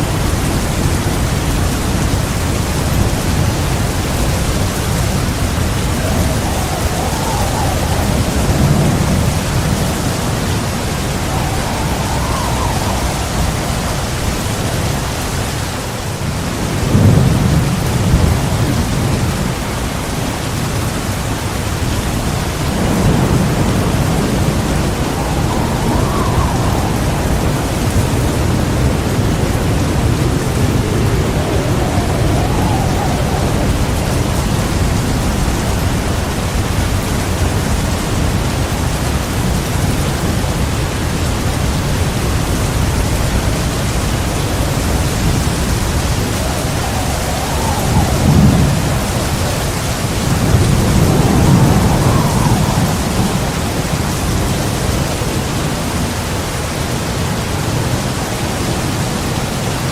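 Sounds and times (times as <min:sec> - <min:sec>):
thunder rumbling: 0:00.0 - 0:59.4
heavy rain pouring: 0:00.0 - 0:59.9.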